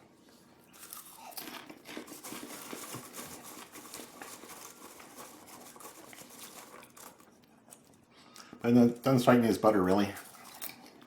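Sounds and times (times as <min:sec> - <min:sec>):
person chewing popcorn: 0:00.3 - 0:08.7, 0:10.1 - 0:11.0.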